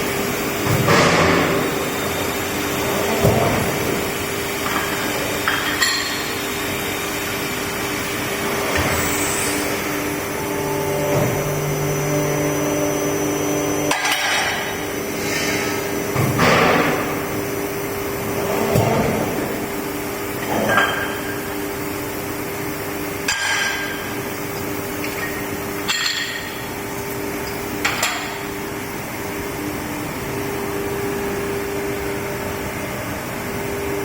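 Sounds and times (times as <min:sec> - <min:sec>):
hydraulic power unit hum: 0:00.0 - 0:34.0.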